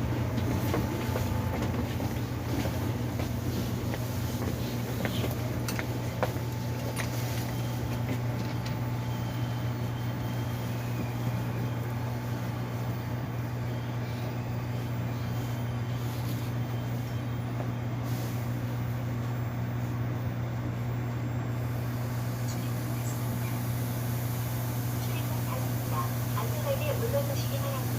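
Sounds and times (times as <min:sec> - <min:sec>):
train interior hum: 0:00.0 - 0:27.9.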